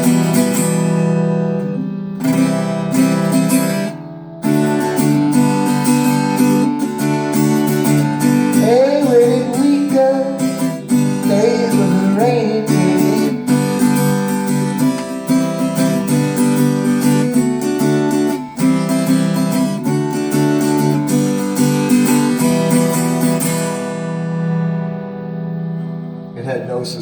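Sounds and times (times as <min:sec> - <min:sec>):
acoustic guitar strummed chords: 0:00.0 - 0:27.0.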